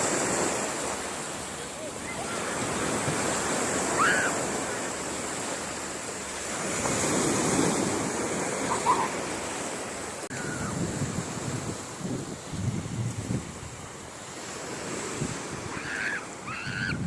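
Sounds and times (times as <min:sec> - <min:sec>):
sea waves washing onto beach: 0:00.0 - 0:17.0.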